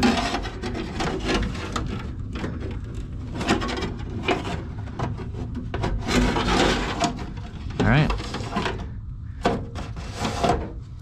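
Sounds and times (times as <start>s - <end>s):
rubbing and scraping: 0.0s - 11.0s.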